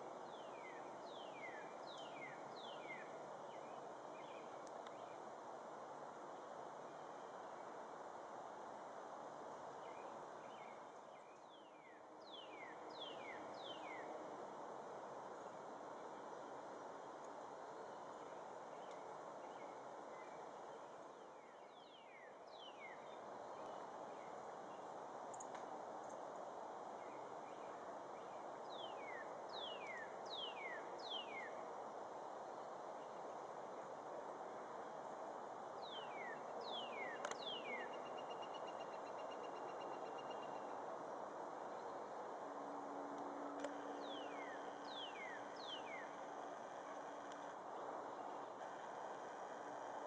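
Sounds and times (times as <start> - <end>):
faint outdoor hiss: 0.0 - 50.0.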